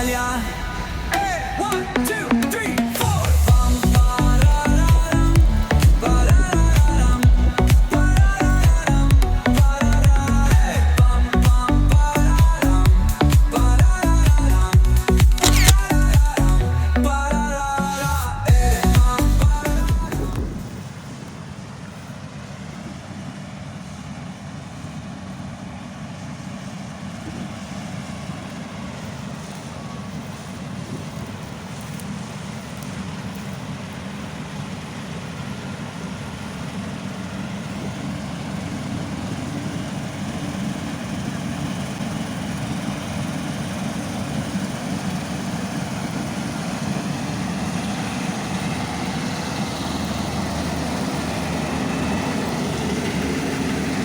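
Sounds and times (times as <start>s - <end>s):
diesel farm machinery engine: 0.0s - 54.0s.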